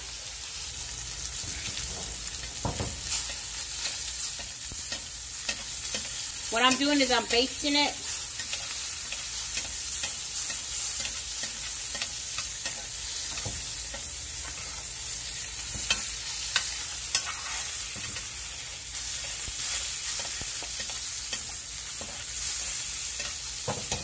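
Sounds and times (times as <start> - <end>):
steak sizzling in a skillet: 0.0 - 24.0
metal spoon scraping a pan: 1.3 - 24.0.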